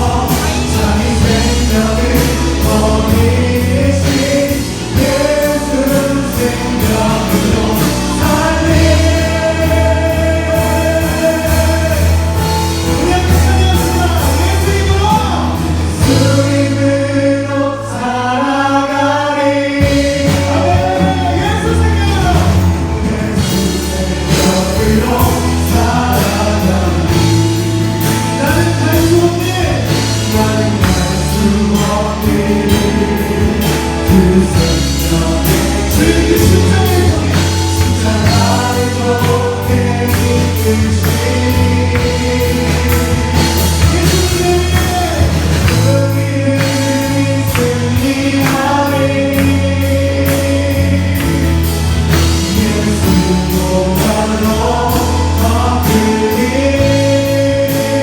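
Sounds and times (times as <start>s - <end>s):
band accompaniment: 0.0s - 58.0s
group singing worship song: 0.0s - 58.0s.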